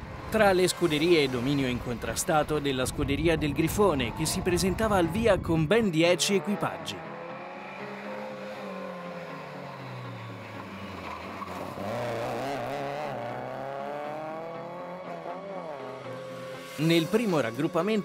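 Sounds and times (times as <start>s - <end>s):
rally car engine revving: 0.0s - 16.5s.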